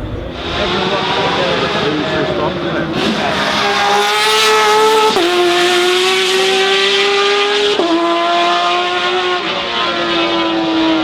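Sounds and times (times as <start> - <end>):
racing car engine accelerating: 0.0 - 11.0.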